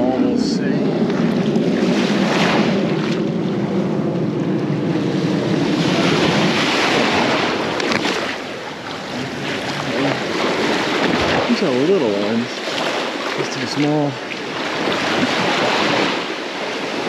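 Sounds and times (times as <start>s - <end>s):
surf washing and sloshing: 0.0s - 17.0s
wind buffeting microphone: 0.0s - 17.0s.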